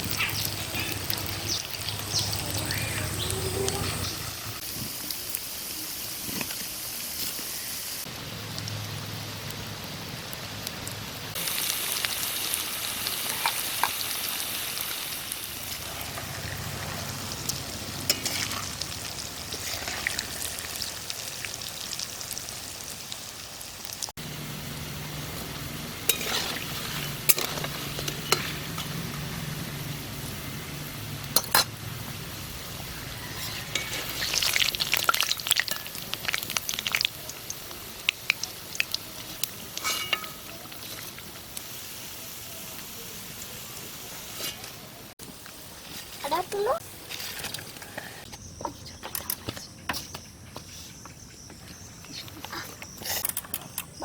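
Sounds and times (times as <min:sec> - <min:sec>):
fritters sizzling in hot oil: 0:00.0 - 0:48.3.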